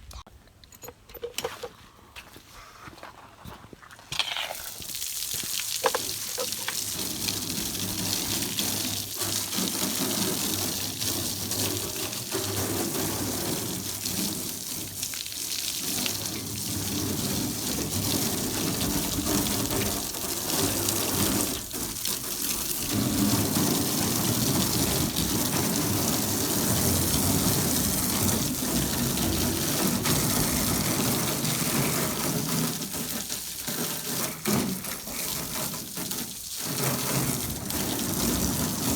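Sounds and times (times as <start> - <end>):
water jet spraying on metal hull: 4.6 - 38.9.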